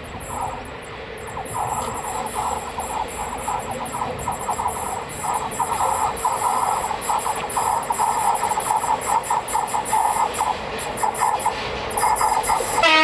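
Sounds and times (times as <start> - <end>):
train wheels squealing on rails: 0.0 - 13.0.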